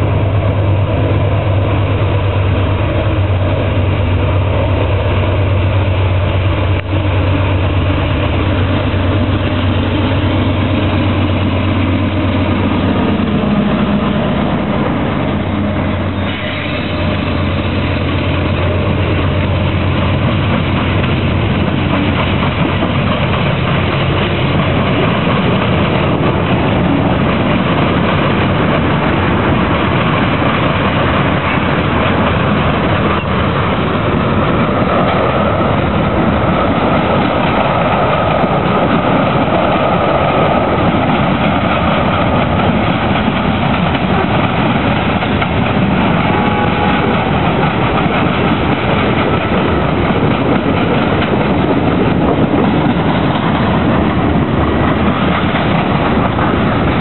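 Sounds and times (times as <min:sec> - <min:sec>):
freight train wheels rumbling: 0:00.0 - 0:57.0
wheels clacking over crossings: 0:06.6 - 0:57.0.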